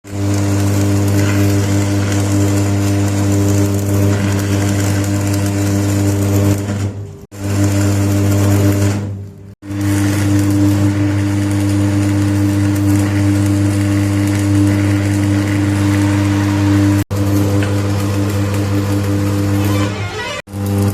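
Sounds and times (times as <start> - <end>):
workshop machine humming: 0.0 - 20.9.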